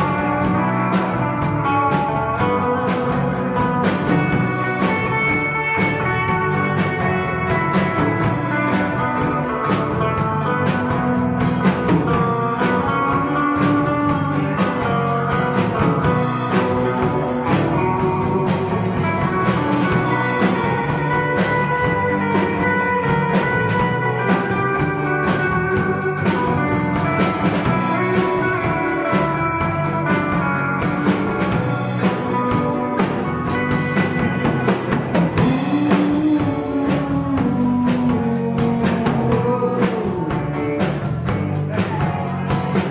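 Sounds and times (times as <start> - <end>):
bass guitar: 0.0 - 42.9
drum kit: 0.0 - 42.9
lead electric guitar melody: 0.0 - 42.9.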